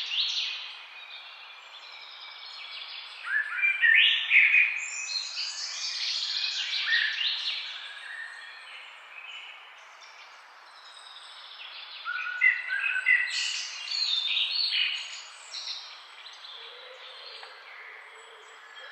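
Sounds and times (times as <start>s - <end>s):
songbirds chirping: 0.0s - 18.9s.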